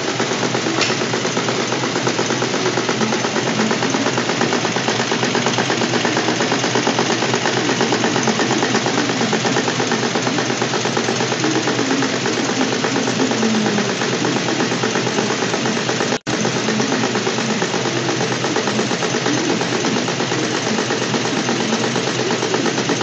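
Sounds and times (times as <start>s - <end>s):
sewing machine clattering: 0.0s - 23.0s.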